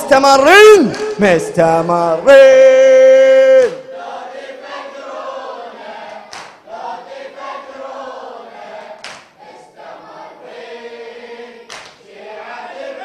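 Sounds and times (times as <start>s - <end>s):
men chanting in unison: 1.5s - 13.0s.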